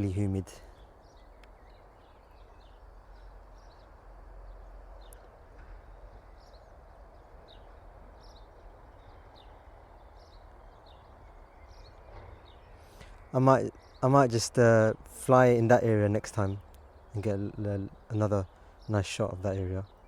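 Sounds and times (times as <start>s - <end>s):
low outdoor rumble and hiss: 0.0s - 20.0s
small birds chirping: 0.0s - 20.0s.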